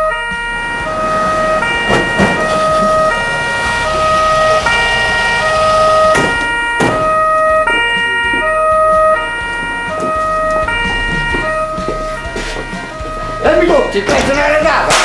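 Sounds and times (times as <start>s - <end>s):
car noise: 0.0s - 15.0s
sharp thumps: 0.0s - 15.0s
two-tone siren wailing: 0.0s - 15.0s.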